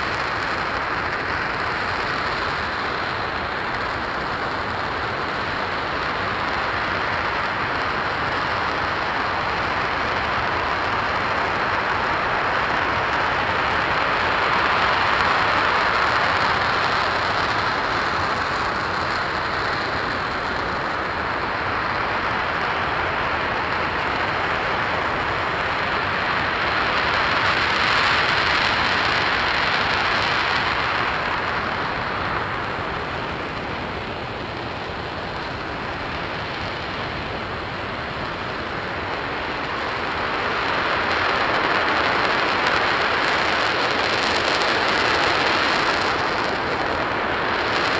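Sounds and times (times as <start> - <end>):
rocket engine roaring: 0.0 - 47.9.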